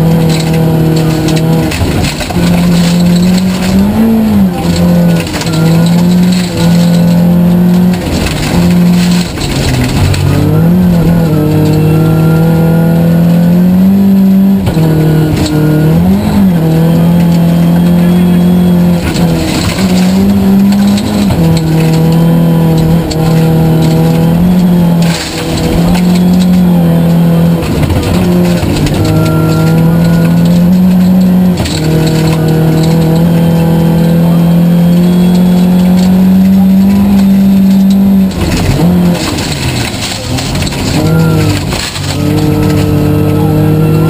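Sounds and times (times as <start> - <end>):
rally car engine revving: 0.0 - 44.0.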